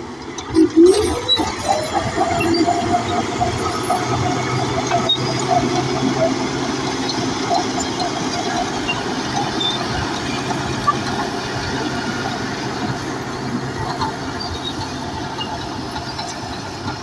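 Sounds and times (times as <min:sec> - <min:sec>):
bulldozer diesel engine: 0:00.0 - 0:17.0
steel tracks clattering and squeaking: 0:00.1 - 0:17.0.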